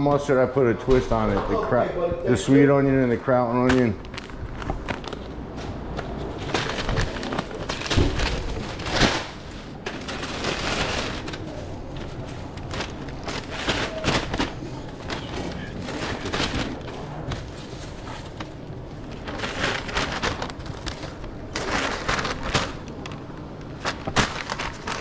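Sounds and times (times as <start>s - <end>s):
paper rustling: 3.5s - 25.0s.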